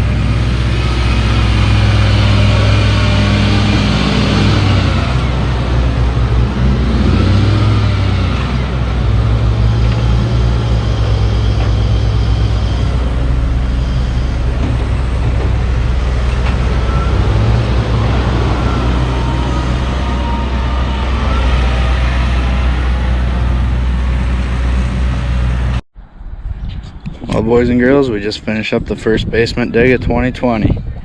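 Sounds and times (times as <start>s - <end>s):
heavy machinery diesel engine: 0.0s - 25.8s.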